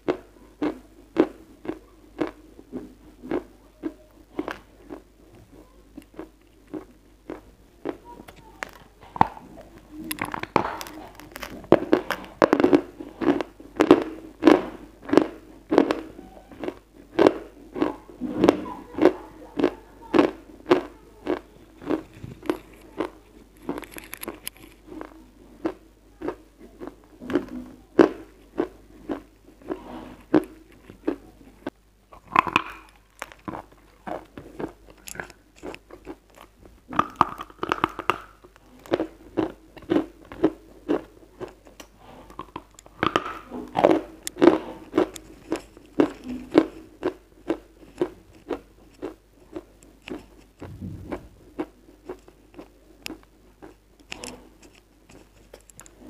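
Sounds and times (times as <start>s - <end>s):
crunching and chewing chalk: 0.0s - 56.0s.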